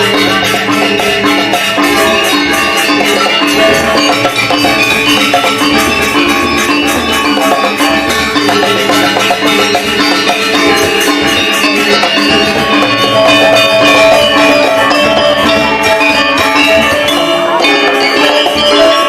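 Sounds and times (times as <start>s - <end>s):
drums: 0.0s - 19.0s
metallophones ringing: 0.0s - 19.0s.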